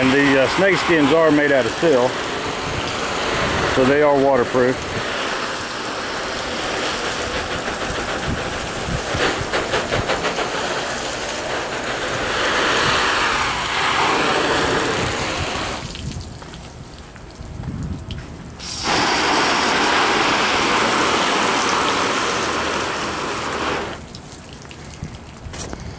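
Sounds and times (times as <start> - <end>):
hose water spraying onto tarp: 0.0 - 25.9.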